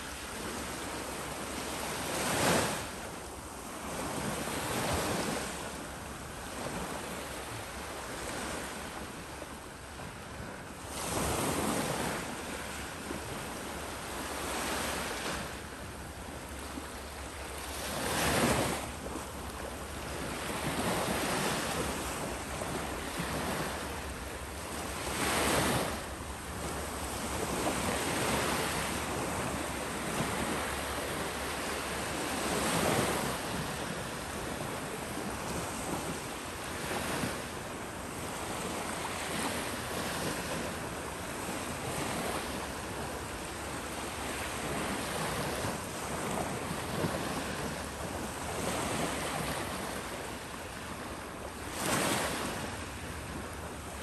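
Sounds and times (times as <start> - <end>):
small waves washing on sand: 0.0 - 54.0.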